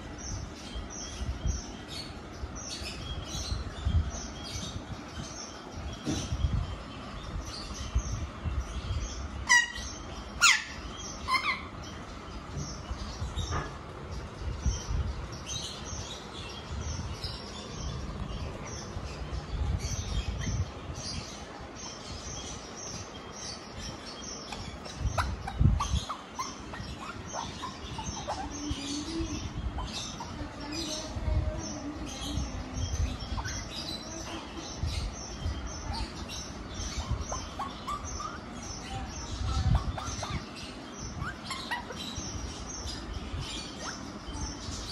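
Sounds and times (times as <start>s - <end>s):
parakeets chirping and calling: 0.0s - 44.9s.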